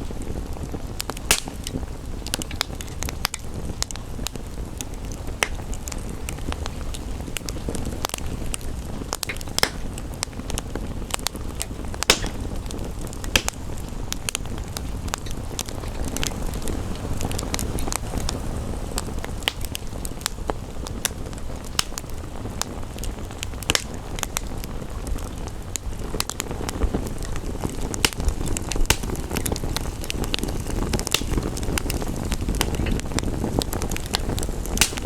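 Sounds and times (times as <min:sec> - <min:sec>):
log fire crackling: 0:00.0 - 0:35.0.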